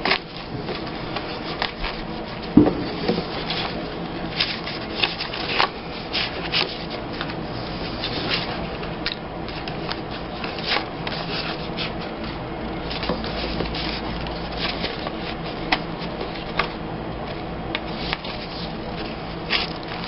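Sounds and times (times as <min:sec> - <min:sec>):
low steady hum: 0:00.0 - 0:20.0
paper rubbing and rustling: 0:00.0 - 0:20.0.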